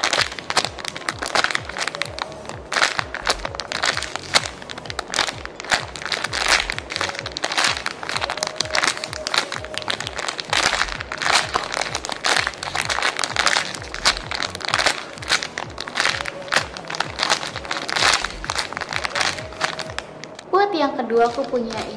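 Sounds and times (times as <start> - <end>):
background music: 0.0 - 21.9
plastic bag crinkling: 0.0 - 21.9.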